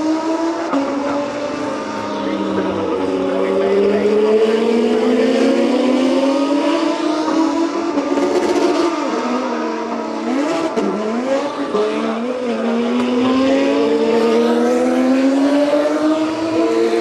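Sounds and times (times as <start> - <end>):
racing car engine: 0.0 - 17.0.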